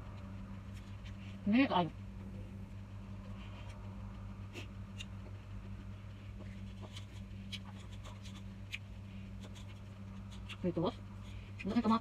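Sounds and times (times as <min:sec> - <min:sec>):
steady low hum: 0:00.0 - 0:12.0
eating clicks and rustles: 0:02.2 - 0:12.0.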